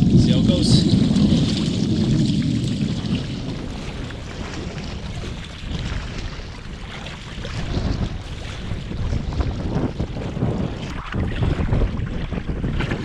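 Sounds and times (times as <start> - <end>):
water lapping against canoe: 0.0 - 13.0
wind buffeting microphone: 0.0 - 13.0.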